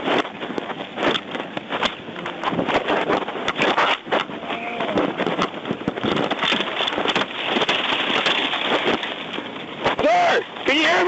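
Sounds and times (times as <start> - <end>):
fire crackling and popping: 0.0 - 11.0
steady rushing of flames: 0.0 - 11.0.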